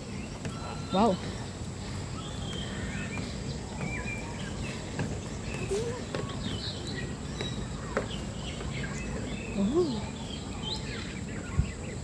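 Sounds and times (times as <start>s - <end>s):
birds chirping and whistling: 0.0s - 12.0s
steady background noise: 0.0s - 12.0s.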